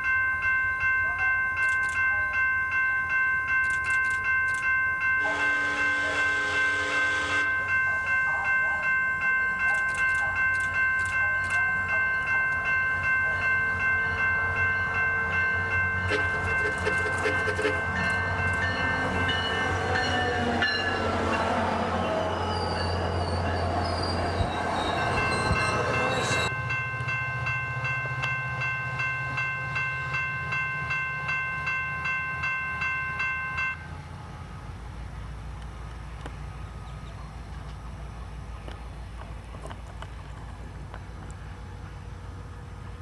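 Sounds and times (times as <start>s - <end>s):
railroad crossing bell ringing: 0.0s - 35.4s
diesel locomotive engine drone: 0.0s - 43.0s
wheels on rails: 7.4s - 43.0s.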